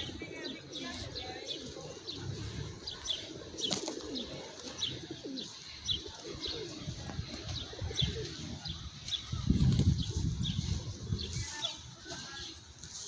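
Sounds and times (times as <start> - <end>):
low gliding cooing calls: 0.0 - 12.6.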